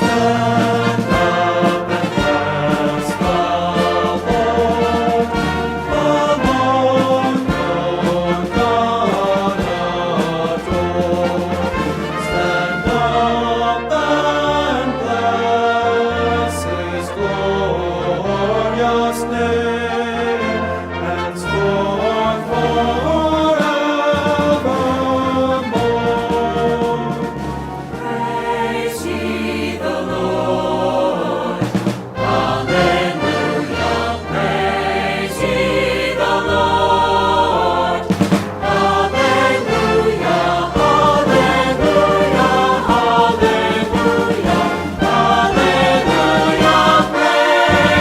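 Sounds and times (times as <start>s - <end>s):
brass and orchestral accompaniment: 0.0s - 48.0s
choir singing a hymn: 0.0s - 48.0s.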